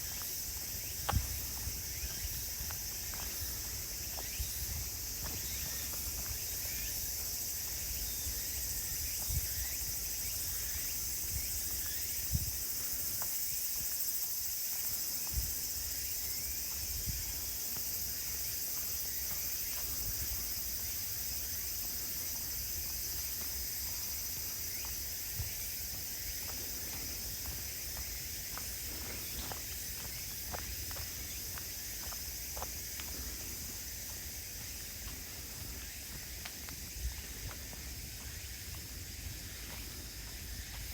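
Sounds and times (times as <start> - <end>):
footsteps on woodland path: 0.0 - 40.9
insects chirping: 0.0 - 40.9.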